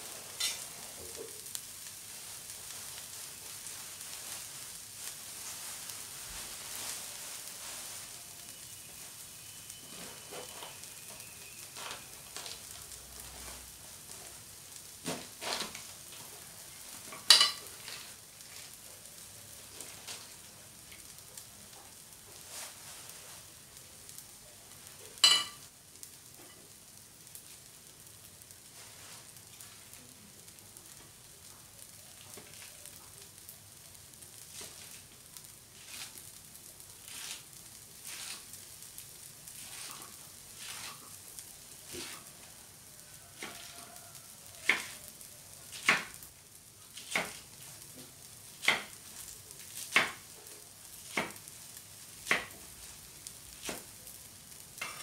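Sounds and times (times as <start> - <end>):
sharp crackles from pan: 0.0 - 55.0
vegetables sizzling in oil: 0.0 - 55.0.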